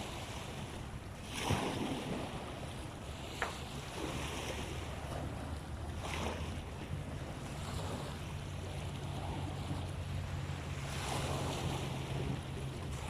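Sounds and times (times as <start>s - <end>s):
sea water: 0.0s - 13.0s
wind: 0.0s - 13.0s.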